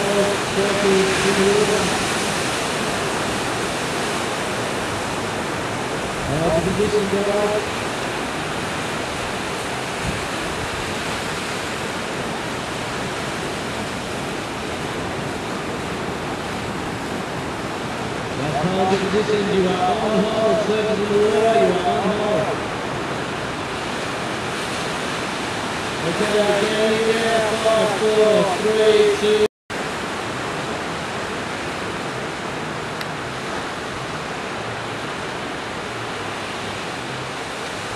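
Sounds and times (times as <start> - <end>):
surf breaking: 0.0 - 32.4.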